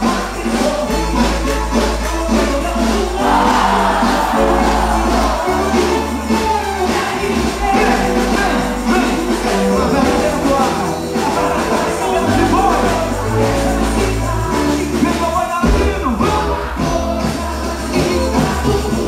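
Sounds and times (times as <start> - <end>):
person singing: 0.0 - 19.0
steady bass line: 0.0 - 19.0.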